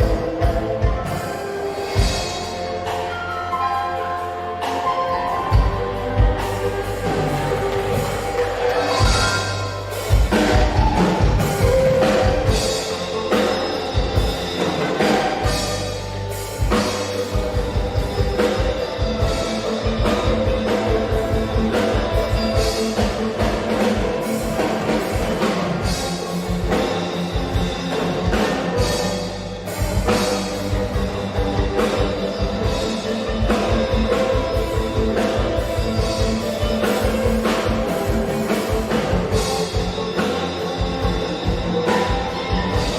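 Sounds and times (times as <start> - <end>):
bass: 0.0 - 42.9
drum kit beat: 0.0 - 42.9
guitar: 0.0 - 42.9.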